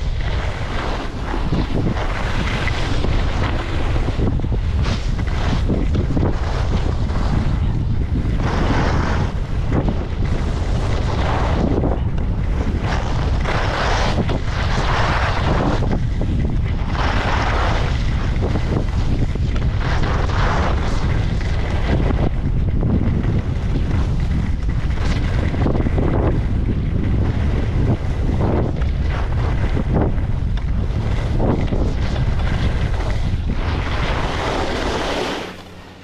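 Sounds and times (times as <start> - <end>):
skis scraping over snow: 0.0 - 36.0
wind buffeting microphone: 0.0 - 36.0.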